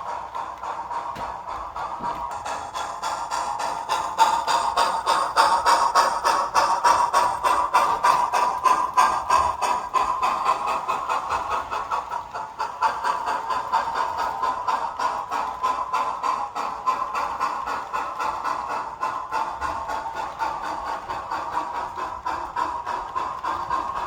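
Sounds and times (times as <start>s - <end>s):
model train clicking on track: 0.0s - 24.0s.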